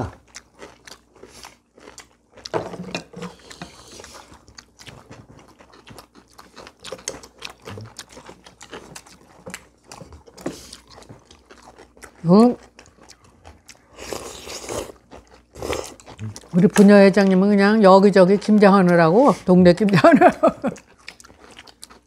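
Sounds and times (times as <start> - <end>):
people chewing: 0.0 - 22.0.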